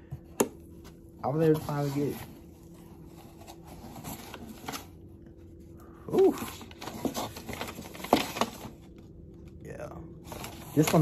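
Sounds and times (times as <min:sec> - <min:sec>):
cardboard and paper rustling: 0:00.1 - 0:09.6, 0:10.2 - 0:11.0.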